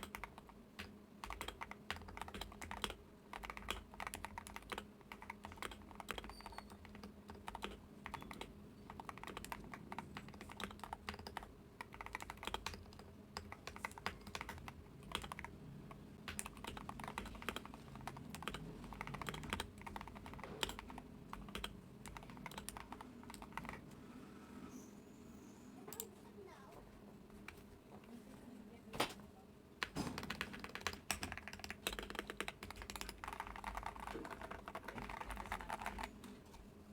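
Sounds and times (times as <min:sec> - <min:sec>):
mechanical keyboard typing: 0:00.0 - 0:23.8, 0:29.8 - 0:36.2.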